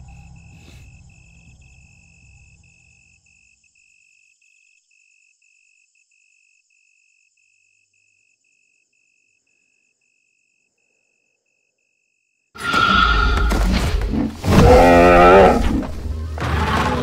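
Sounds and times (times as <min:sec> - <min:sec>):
cricket chirping: 0:00.0 - 0:16.4.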